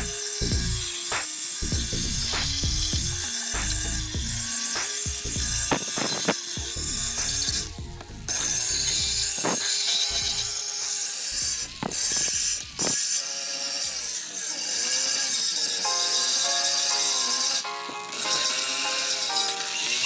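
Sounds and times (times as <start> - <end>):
drill grinding rust off steel: 0.0 - 20.0.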